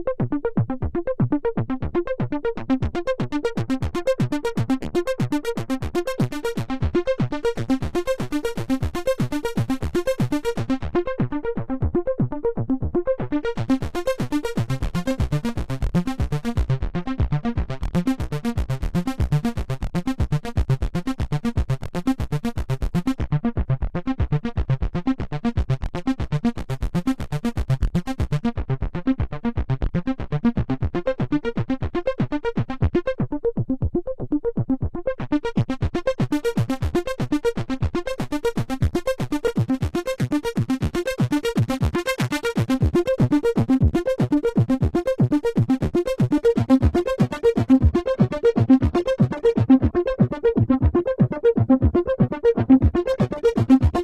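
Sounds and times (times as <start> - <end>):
synthesizer sequence with filter sweeps: 0.0 - 54.0.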